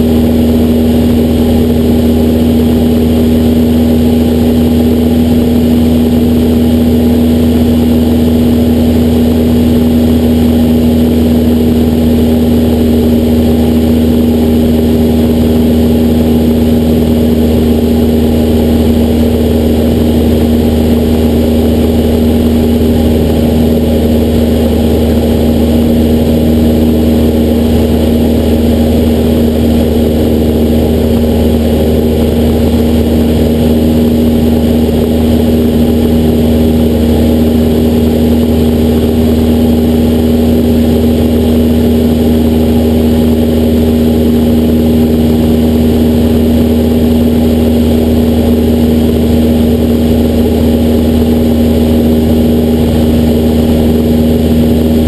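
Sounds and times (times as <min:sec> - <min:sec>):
airplane engine and propeller drone: 0:00.0 - 0:55.0.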